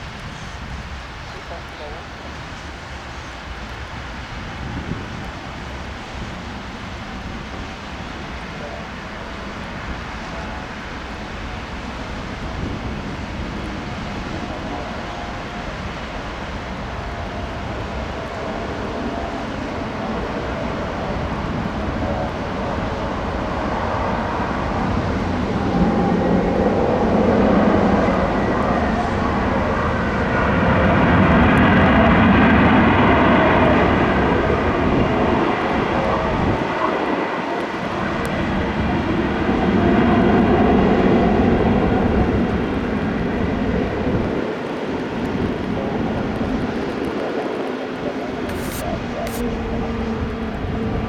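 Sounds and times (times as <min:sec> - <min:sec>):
high fan whine: 0:00.0 - 0:47.4, 0:48.0 - 0:51.0
jet engines rushing: 0:00.0 - 0:51.0.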